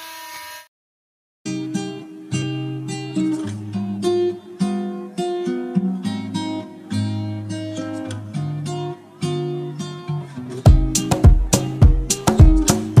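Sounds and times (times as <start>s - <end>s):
acoustic guitar music: 1.5s - 13.0s.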